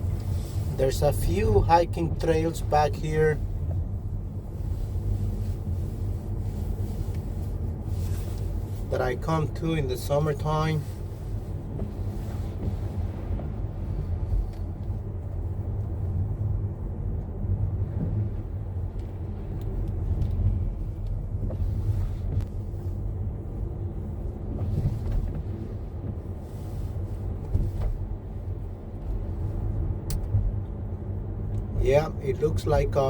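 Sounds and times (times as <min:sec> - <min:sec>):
car engine and tyre rumble: 0:00.0 - 0:33.0.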